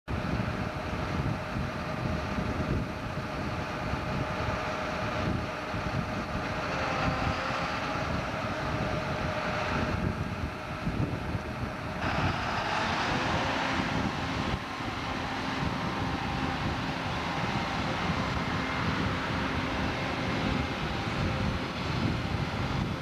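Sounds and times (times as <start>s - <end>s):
combine harvester diesel engine: 0.1s - 23.0s
wind buffeting microphone: 0.1s - 23.0s.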